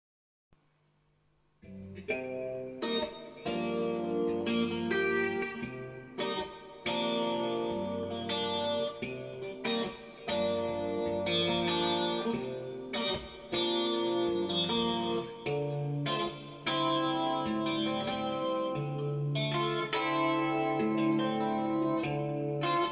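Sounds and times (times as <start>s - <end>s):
clean electric guitar: 1.6s - 22.9s.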